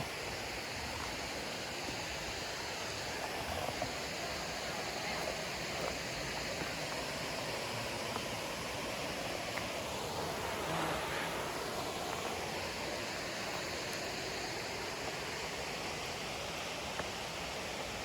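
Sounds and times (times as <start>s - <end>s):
distant waterfall rushing: 0.0s - 18.0s.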